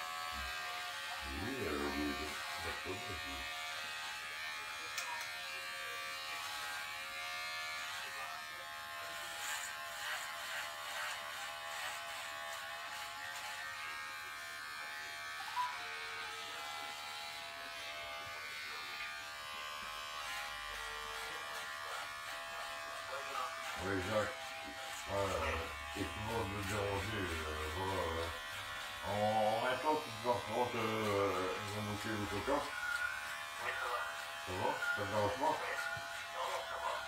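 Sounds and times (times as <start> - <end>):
electric hair clippers buzzing: 0.0 - 37.0.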